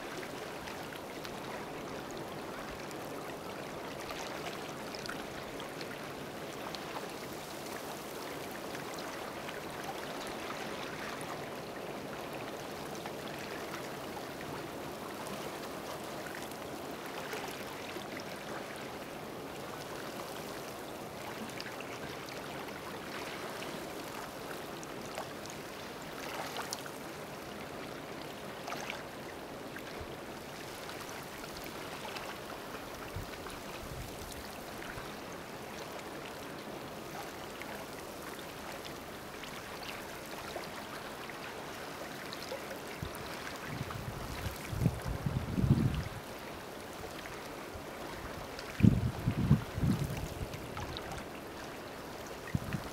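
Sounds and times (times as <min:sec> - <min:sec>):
seawater lapping in rock pool: 0:00.0 - 0:52.9.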